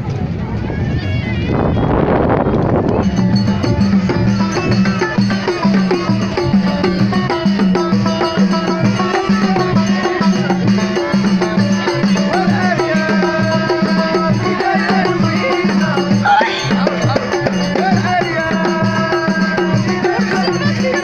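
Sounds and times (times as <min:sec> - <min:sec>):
frame drum and hand drums beat: 0:02.5 - 0:21.0
banjo: 0:02.8 - 0:21.0
person singing: 0:03.6 - 0:21.0.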